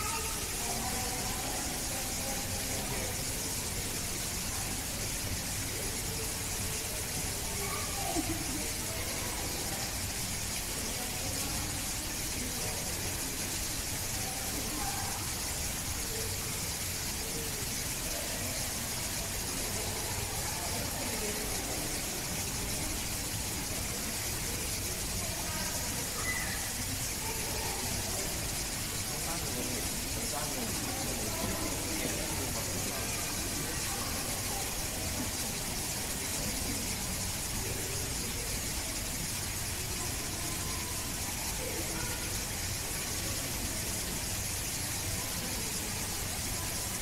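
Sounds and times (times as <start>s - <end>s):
background hiss: 0.0s - 47.0s
faint distant voices: 0.0s - 47.0s.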